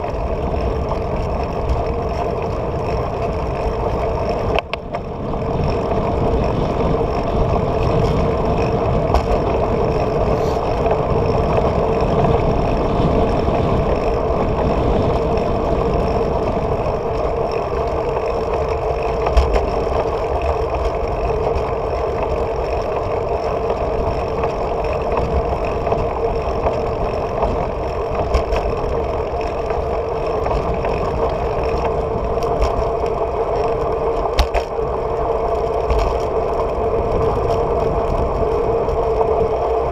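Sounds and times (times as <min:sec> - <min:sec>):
bicycle road noise: 0:00.0 - 0:39.9
wind rumbling on microphone: 0:00.0 - 0:39.9.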